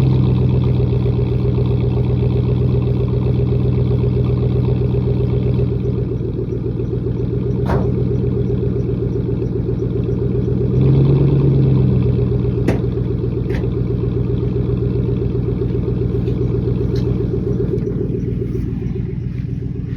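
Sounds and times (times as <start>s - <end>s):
car exhaust idling rumble: 0.0s - 19.9s.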